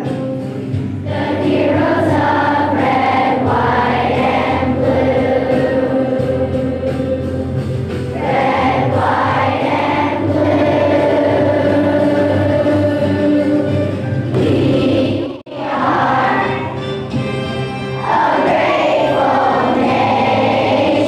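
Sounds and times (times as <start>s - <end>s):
musical accompaniment: 0.0s - 21.0s
children singing in unison: 1.0s - 7.4s, 8.1s - 16.8s, 18.0s - 21.0s.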